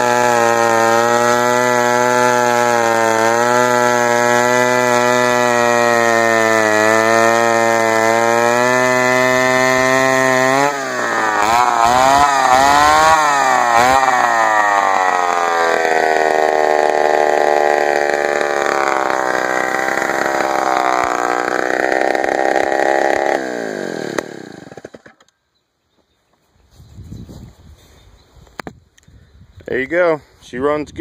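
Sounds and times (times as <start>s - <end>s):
chainsaw running and cutting wood: 0.0s - 25.3s.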